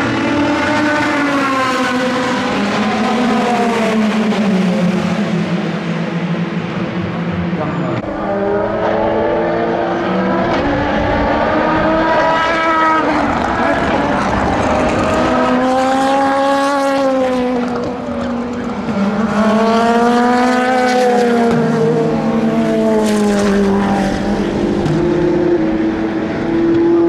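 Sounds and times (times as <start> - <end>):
race cars passing at speed: 0.0 - 27.0.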